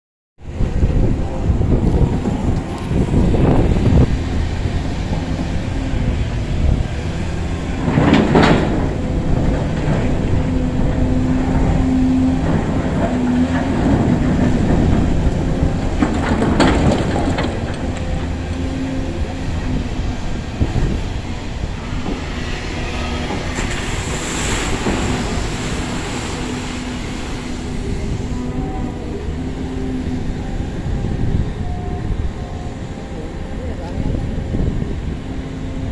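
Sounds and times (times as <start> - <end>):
excavator engine and hydraulics: 0.4 - 35.9.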